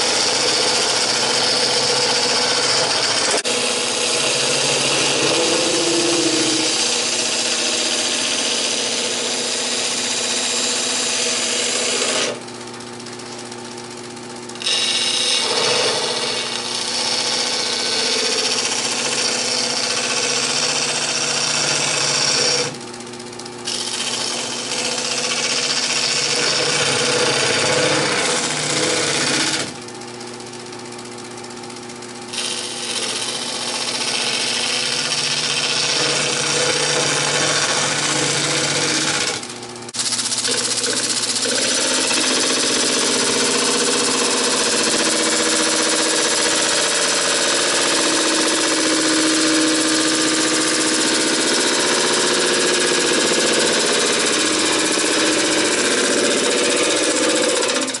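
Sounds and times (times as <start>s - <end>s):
turning tool scraping: 0.0s - 12.4s, 14.5s - 22.8s, 23.6s - 29.8s, 32.3s - 52.3s, 53.0s - 58.0s
lathe humming: 0.0s - 29.9s, 31.2s - 58.0s.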